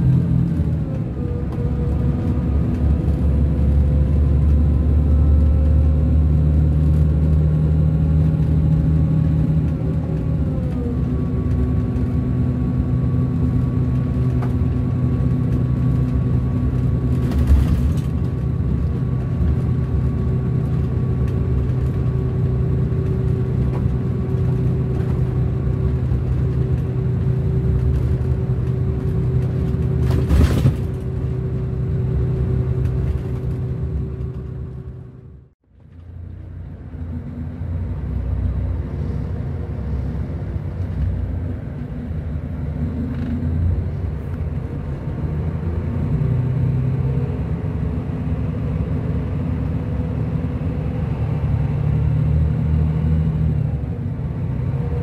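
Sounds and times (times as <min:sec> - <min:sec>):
diesel coach engine running: 0:00.0 - 0:55.0.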